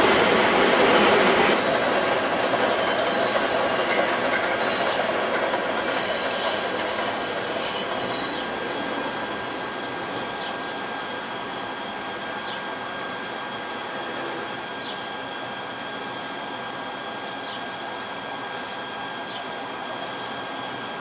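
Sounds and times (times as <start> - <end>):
subway train high whine: 0.0 - 21.0.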